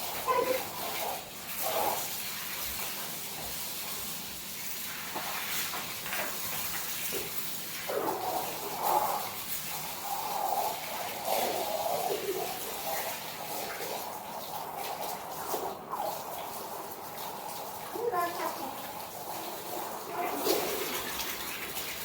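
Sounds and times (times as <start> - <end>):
milk hissing into a pail: 0.0 - 22.0.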